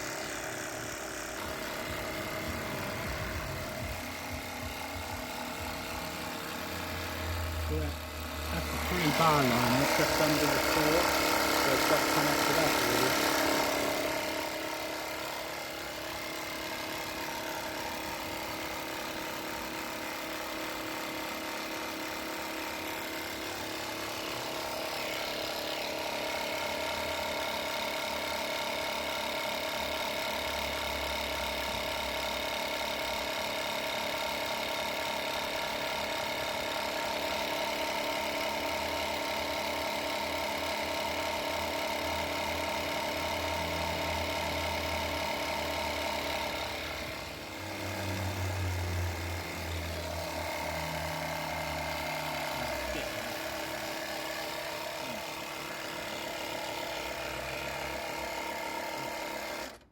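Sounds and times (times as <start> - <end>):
air compressor motor hum: 0.0 - 59.9.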